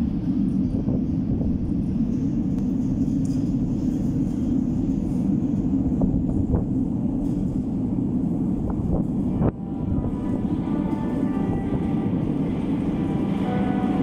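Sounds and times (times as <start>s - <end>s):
metro train rumbling in tunnel: 0.0s - 14.0s.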